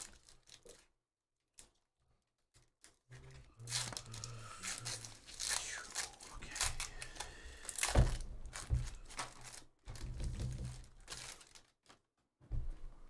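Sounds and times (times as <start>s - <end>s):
foil wrapper crinkling: 0.0s - 12.2s.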